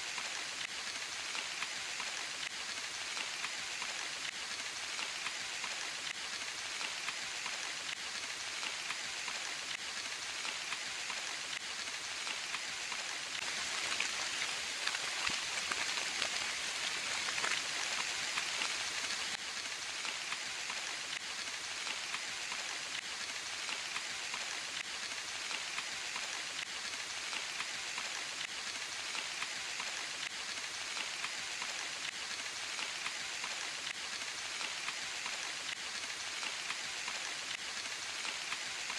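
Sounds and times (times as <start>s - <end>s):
rain hissing in a forest: 0.0s - 38.9s
raindrops ticking: 0.1s - 38.9s.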